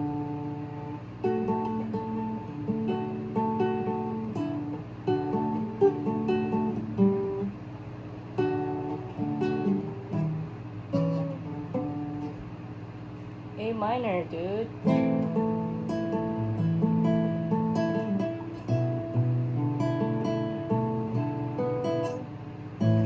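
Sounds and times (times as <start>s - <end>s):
acoustic guitar playing: 0.0s - 12.9s, 13.6s - 23.0s.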